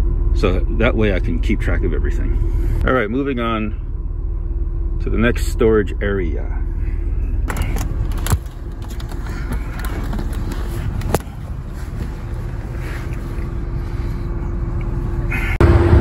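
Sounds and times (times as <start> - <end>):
faint hum: 0.0 - 16.0
steady low rumble: 0.0 - 16.0.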